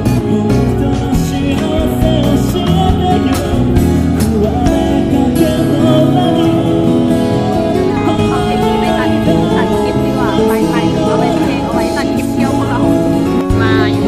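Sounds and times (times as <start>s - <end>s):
instrumental backing music: 0.0s - 14.0s
person singing into microphone: 0.0s - 14.0s.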